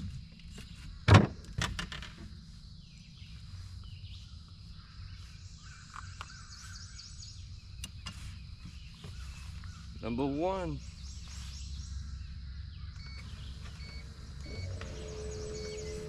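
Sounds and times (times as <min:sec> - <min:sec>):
low outdoor rumble: 0:00.0 - 0:16.0
birds chirping and calling: 0:02.8 - 0:16.0.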